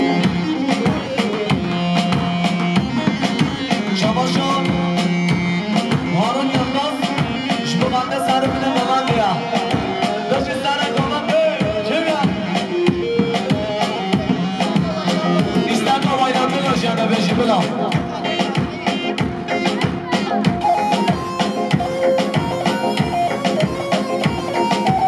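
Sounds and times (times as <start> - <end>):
fast steady drum beat: 0.0 - 25.0
ornamented sliding melody: 0.0 - 25.0.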